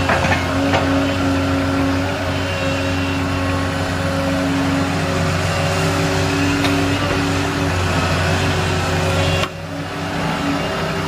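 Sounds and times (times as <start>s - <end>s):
excavator diesel engine under load: 0.0s - 11.0s.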